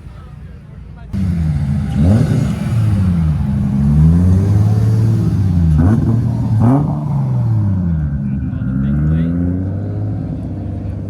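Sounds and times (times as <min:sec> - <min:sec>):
car engine revving: 0:01.1 - 0:11.0.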